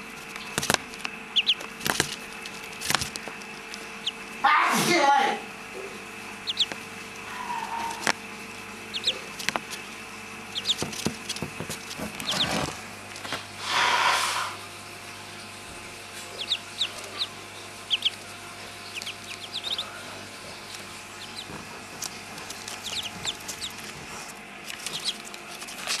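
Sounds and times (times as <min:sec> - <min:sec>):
ducklings peeping: 0:00.0 - 0:04.4, 0:05.7 - 0:12.8, 0:15.0 - 0:26.0.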